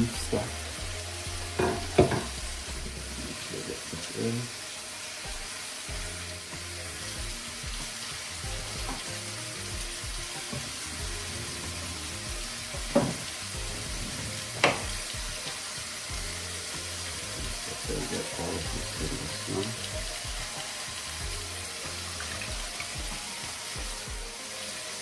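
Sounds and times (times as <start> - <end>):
food sizzling: 0.0 - 25.0.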